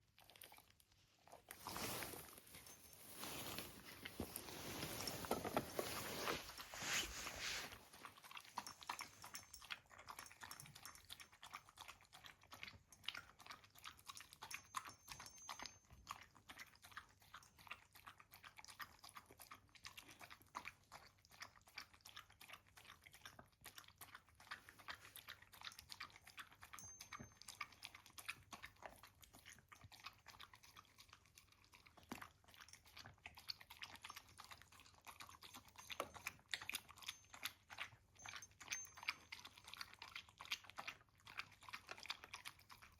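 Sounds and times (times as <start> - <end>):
pet crunching food: 0.0 - 42.9.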